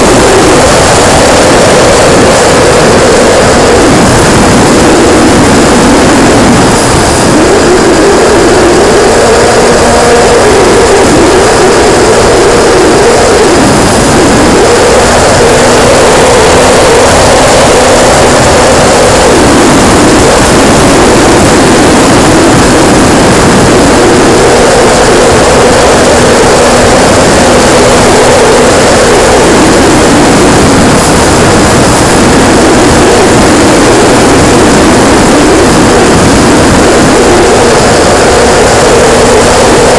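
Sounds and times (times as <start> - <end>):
heavy wind rush: 0.0 - 39.9
model plane motor and propeller: 0.0 - 39.9.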